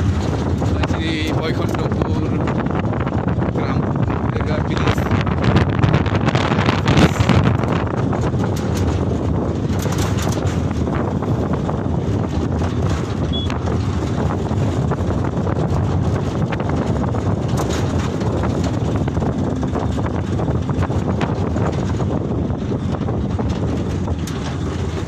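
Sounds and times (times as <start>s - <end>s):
truck engine and road noise: 0.0s - 25.0s
wind buffeting microphone: 0.0s - 25.0s.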